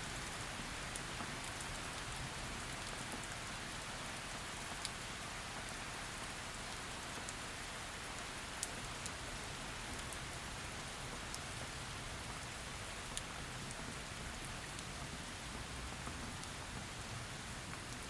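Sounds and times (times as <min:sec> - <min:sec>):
raindrops ticking on a surface: 0:00.0 - 0:18.0.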